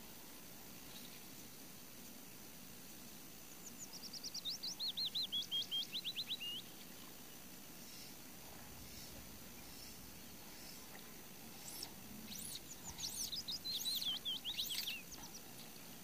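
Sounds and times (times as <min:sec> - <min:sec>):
faint background hiss: 0:00.0 - 0:16.0
songbird singing: 0:00.0 - 0:16.0.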